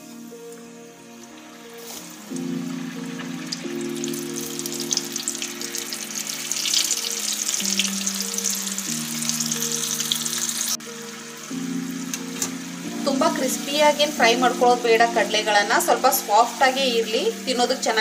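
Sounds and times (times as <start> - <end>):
deep-frying sizzle and crackling: 0.0 - 18.0.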